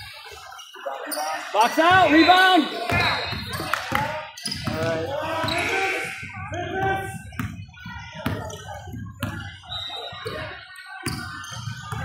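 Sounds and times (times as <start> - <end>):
indistinct voices: 0.4 - 11.2.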